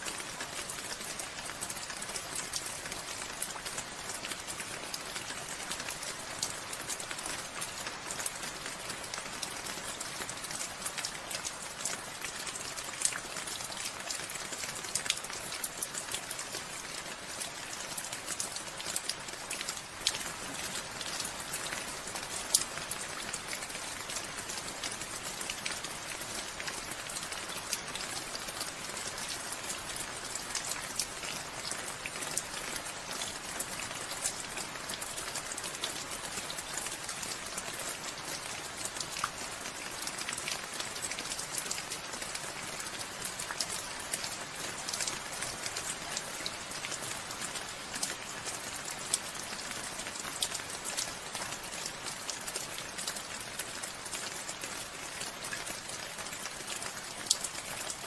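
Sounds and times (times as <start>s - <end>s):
raindrops pattering on surfaces: 0.0s - 58.0s
steady rain: 0.0s - 58.0s.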